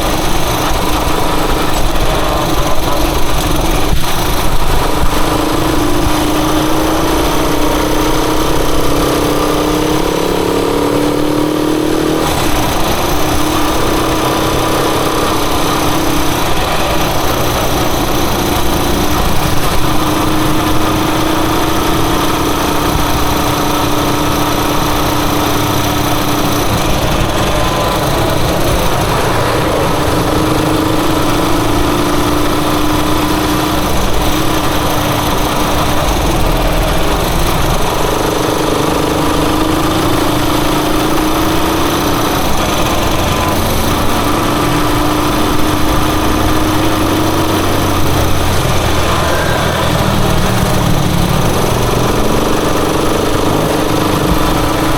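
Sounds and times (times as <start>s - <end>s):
motorcycle engine running: 0.0s - 54.9s
steady rush of noise: 0.0s - 54.9s.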